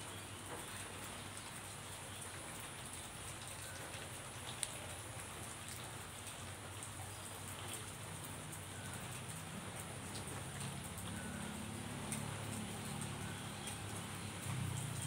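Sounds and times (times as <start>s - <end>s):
rain falling on grass: 0.0s - 15.0s.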